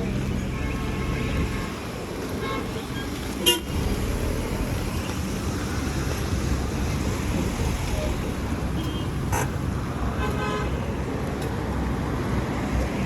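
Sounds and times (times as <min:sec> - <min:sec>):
street traffic engines: 0:00.0 - 0:13.0.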